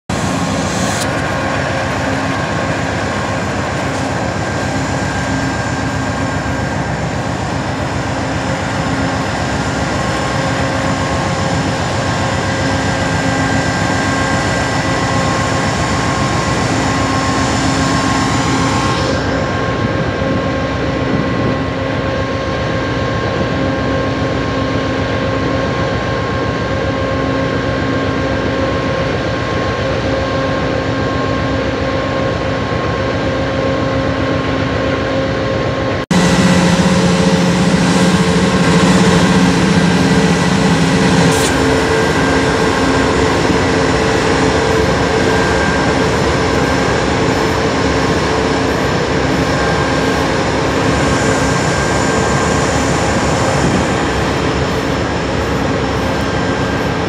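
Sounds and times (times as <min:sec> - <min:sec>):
diesel locomotive rumble: 0:00.0 - 0:57.0
high steady whine: 0:00.0 - 0:57.0
moving train noise: 0:00.0 - 0:57.0.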